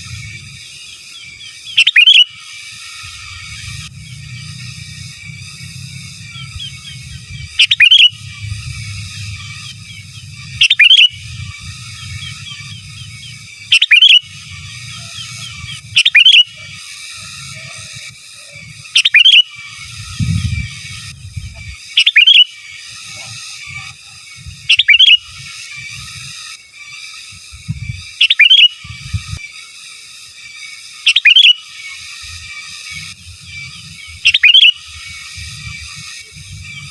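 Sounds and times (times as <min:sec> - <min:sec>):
bird chattering: 0:00.0 - 0:25.7, 0:28.1 - 0:28.8, 0:31.0 - 0:31.9, 0:32.9 - 0:36.9
bulbul sharp calls: 0:00.0 - 0:26.2, 0:26.9 - 0:29.3, 0:31.0 - 0:36.9.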